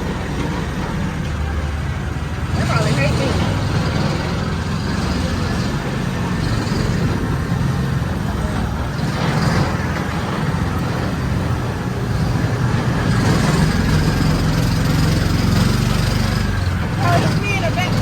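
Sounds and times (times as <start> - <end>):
atv engine rumbling: 0.0 - 18.0.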